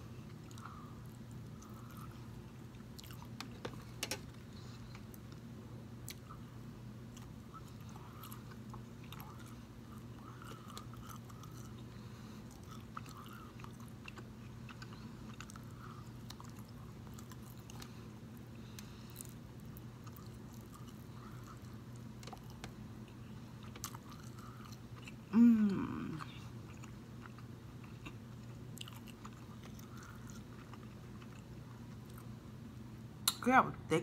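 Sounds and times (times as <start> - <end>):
steady low hum: 0.0 - 34.0
person chewing: 0.2 - 6.4, 7.1 - 32.4.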